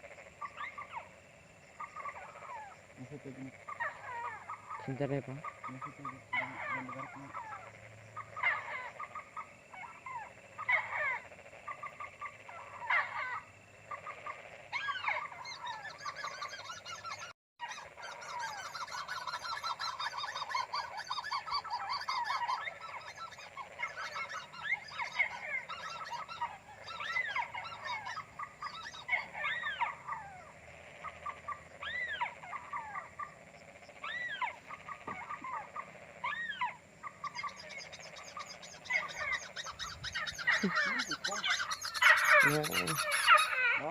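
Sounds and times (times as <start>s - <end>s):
night animal calls: 0.0s - 43.9s.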